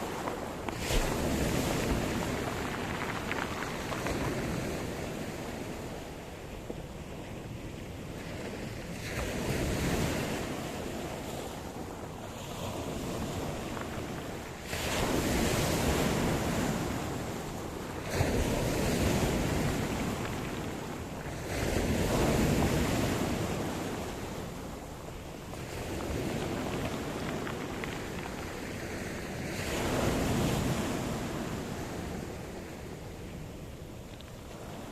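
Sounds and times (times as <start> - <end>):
waves breaking ashore: 0.0 - 34.9
wind buffeting microphone: 0.0 - 34.9.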